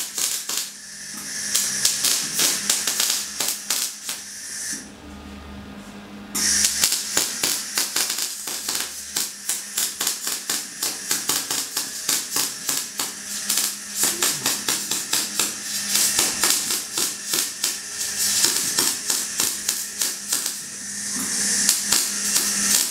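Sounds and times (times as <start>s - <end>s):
arc welding crackle and hiss: 0.0s - 4.9s, 6.4s - 22.9s
steady low hum: 0.0s - 22.9s.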